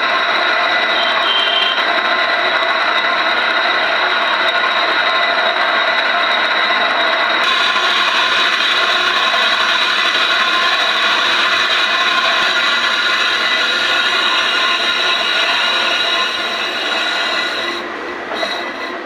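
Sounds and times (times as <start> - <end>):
metallic grinding whine: 0.0 - 19.0.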